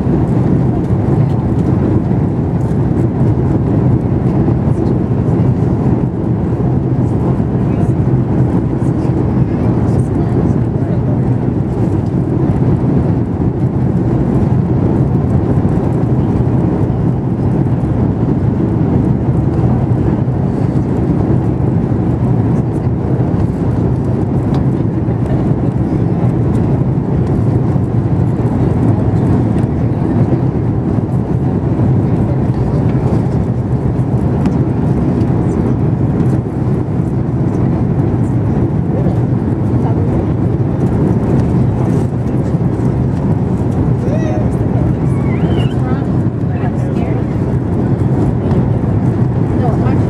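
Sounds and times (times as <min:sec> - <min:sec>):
airliner cabin engine and airflow noise: 0:00.0 - 0:50.0.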